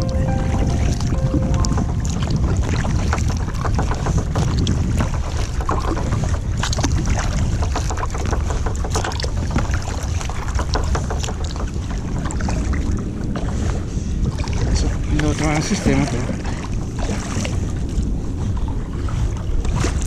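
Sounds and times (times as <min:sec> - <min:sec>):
water splashing against kayak: 0:00.0 - 0:20.0
wind buffeting microphone: 0:00.0 - 0:20.0.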